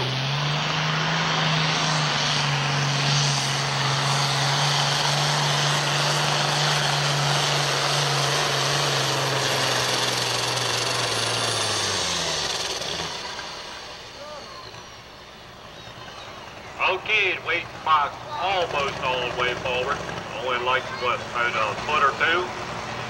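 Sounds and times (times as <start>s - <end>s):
tractor engine at full throttle: 0.0s - 23.0s.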